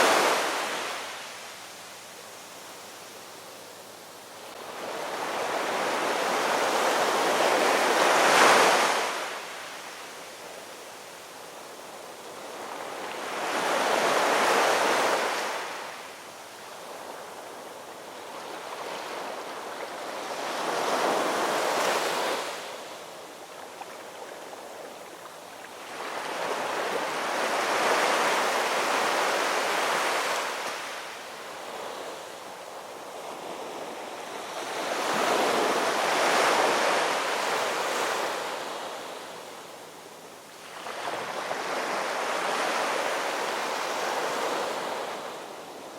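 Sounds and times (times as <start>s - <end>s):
ocean waves breaking on shore: 0.0s - 3.7s, 4.3s - 45.9s.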